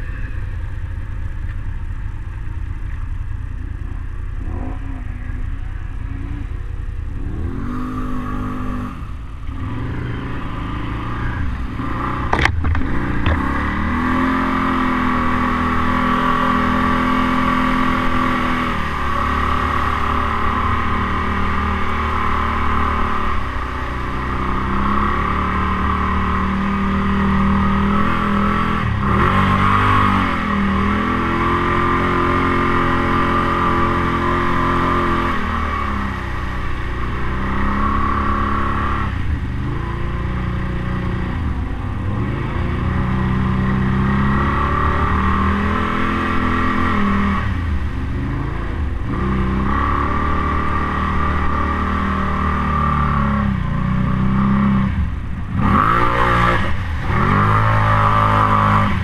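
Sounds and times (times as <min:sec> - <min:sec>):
atv engine revving through water: 0:04.4 - 0:59.0.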